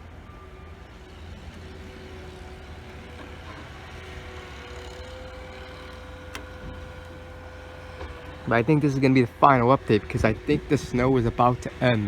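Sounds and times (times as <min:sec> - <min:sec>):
thin engine whine: 0:00.0 - 0:12.0
truck engine droning: 0:00.0 - 0:12.0.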